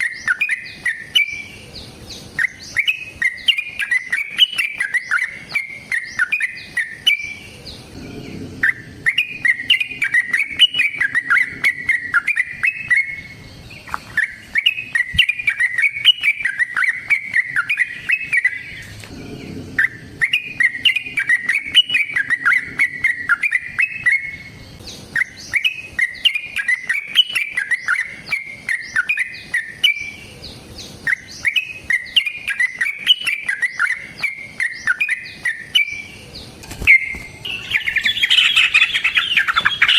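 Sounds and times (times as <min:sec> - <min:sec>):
bird rolling song: 0:00.0 - 0:39.9.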